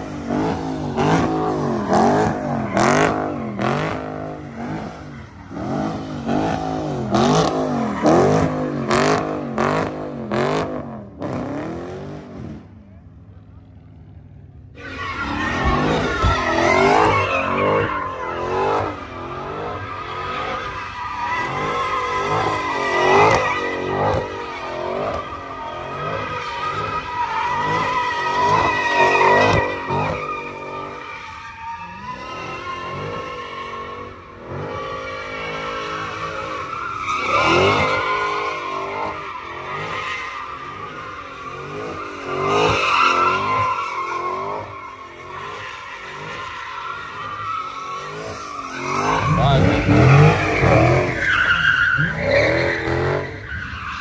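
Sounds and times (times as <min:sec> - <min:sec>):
tire squeal: 0:00.0 - 0:13.0, 0:13.6 - 0:54.0
car engine revving: 0:00.0 - 0:31.0, 0:32.0 - 0:54.0.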